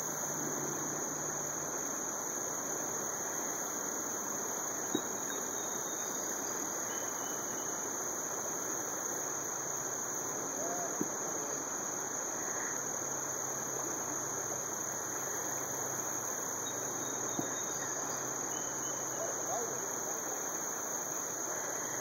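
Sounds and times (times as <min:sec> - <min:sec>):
rushing outdoor background noise: 0:00.0 - 0:22.0.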